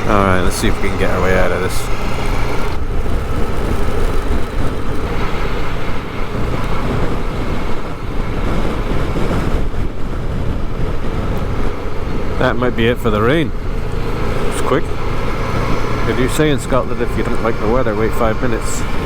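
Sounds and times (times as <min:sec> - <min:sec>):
motorcycle engine: 0:00.0 - 0:19.0
road noise: 0:00.0 - 0:19.0
wind rush on microphone: 0:00.0 - 0:19.0.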